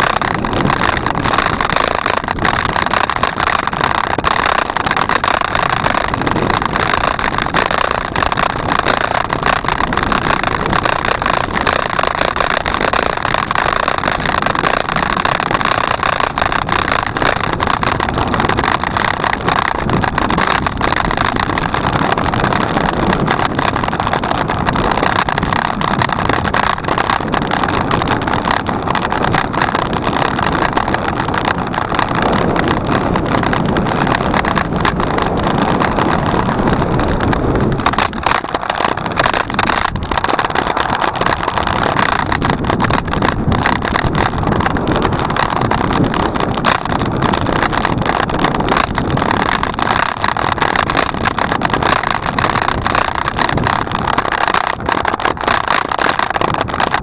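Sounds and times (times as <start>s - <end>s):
bicycle road rattle: 0.0s - 57.0s
wind rushing over microphone: 0.0s - 57.0s.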